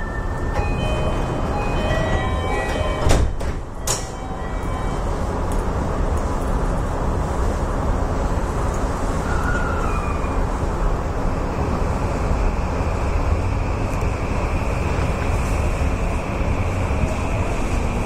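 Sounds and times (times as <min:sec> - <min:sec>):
train cab rumble and hum: 0:00.0 - 0:18.0.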